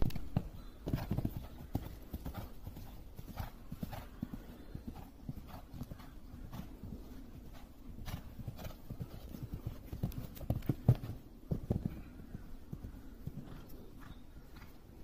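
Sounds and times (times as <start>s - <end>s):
horse hooves thudding on sand: 0.0s - 14.8s.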